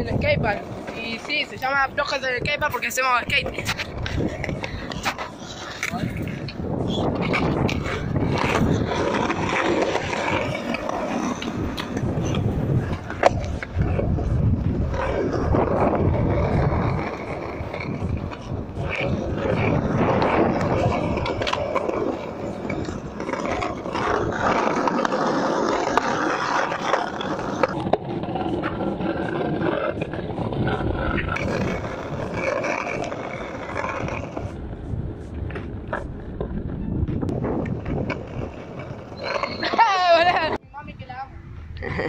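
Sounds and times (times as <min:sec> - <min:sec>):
skateboard clacking on ground: 0:00.0 - 0:34.6
skateboard wheels rolling on concrete: 0:00.0 - 0:42.0.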